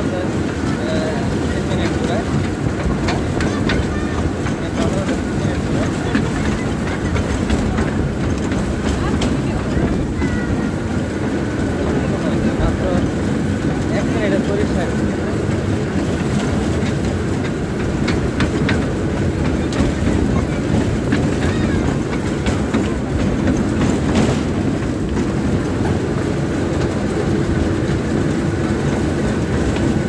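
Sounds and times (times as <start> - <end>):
train rumbling along track: 0.0 - 30.0
wheels clicking on rails: 0.0 - 30.0.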